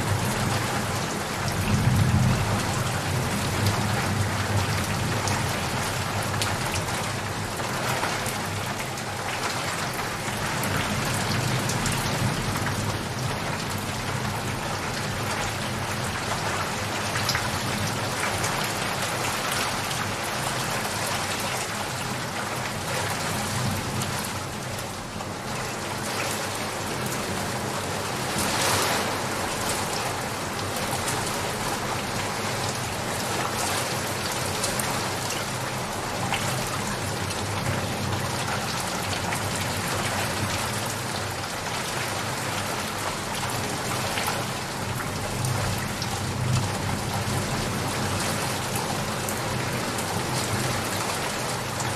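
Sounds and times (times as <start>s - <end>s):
heavy rain pattering: 0.0s - 51.9s.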